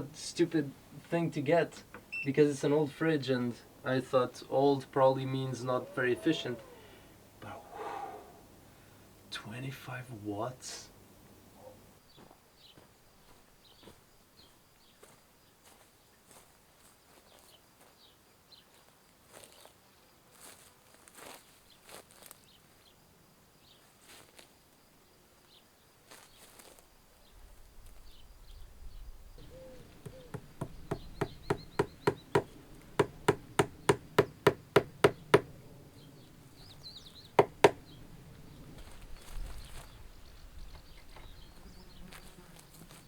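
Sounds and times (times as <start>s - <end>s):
faint outdoor background noise: 0.0s - 43.0s.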